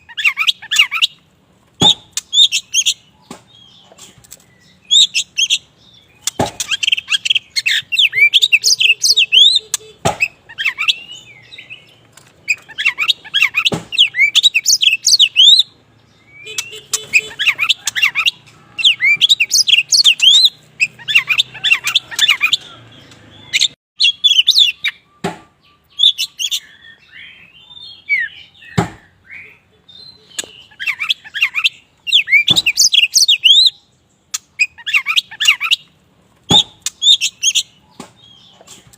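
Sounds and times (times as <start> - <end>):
songbird whistling and chirping: 0.0 - 1.2, 1.8 - 35.9, 36.5 - 38.9.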